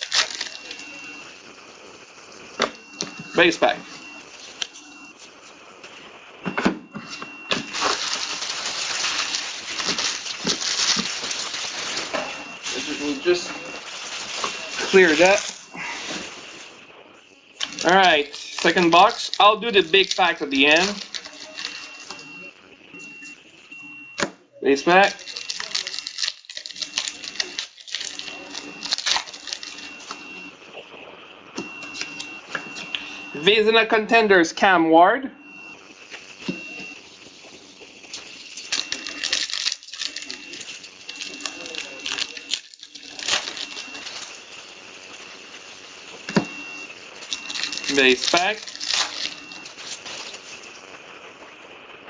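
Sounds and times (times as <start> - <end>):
foil wrappers crinkling: 0.0 - 6.0, 7.0 - 16.8, 17.6 - 22.4, 24.8 - 30.5, 31.6 - 33.2, 36.0 - 51.2.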